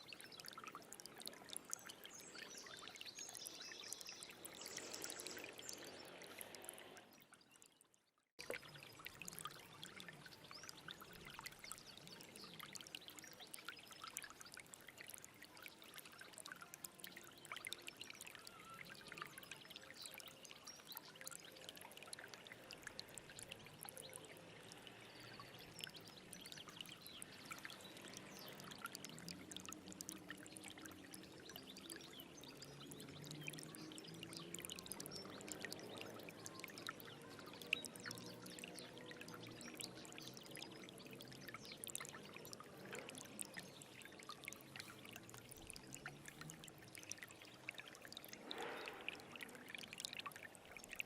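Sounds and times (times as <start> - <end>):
stream trickling and babbling: 0.0 - 51.0.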